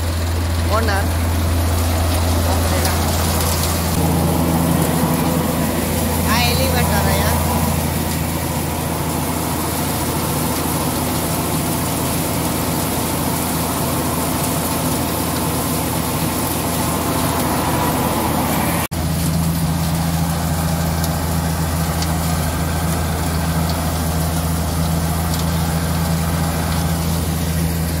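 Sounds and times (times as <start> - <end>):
threshing drum running: 0.0 - 28.0
tractor diesel engine: 0.0 - 28.0.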